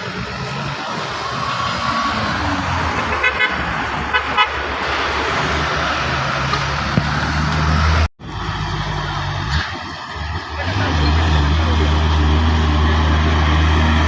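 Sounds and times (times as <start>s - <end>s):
truck engines running: 0.0s - 14.0s.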